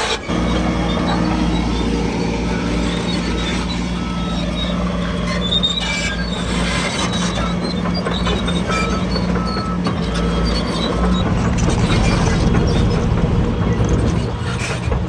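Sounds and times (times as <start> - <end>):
bulldozer diesel engine running: 0.0 - 15.0
steel tracks squealing: 0.0 - 15.0.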